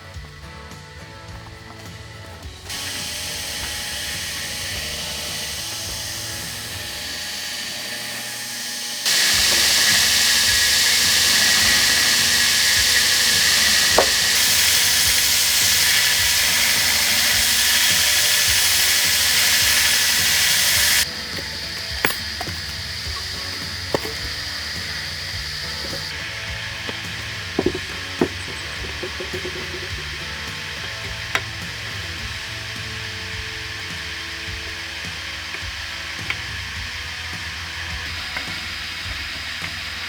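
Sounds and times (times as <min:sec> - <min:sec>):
power tool grinding steel: 0:01.2 - 0:40.0.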